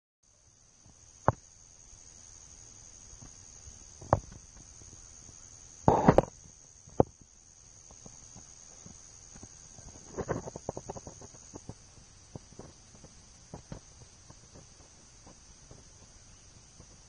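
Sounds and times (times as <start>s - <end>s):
high-pitched insect chorus: 0.3s - 17.0s.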